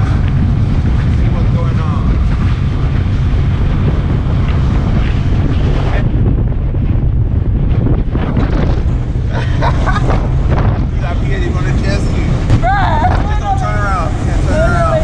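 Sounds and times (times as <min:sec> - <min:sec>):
boat rumbling over water: 0:00.0 - 0:15.0
wind buffeting microphone: 0:00.0 - 0:15.0.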